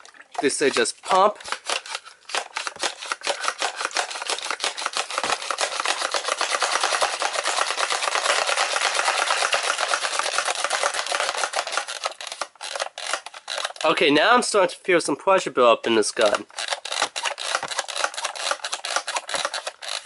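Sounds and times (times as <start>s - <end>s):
plastic slide pump strokes: 0.7s - 14.0s, 16.2s - 20.0s.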